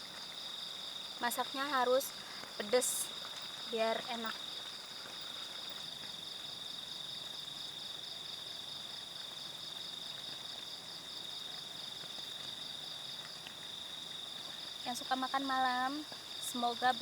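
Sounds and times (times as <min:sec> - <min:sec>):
insects high-pitched whine: 0:00.0 - 0:17.0.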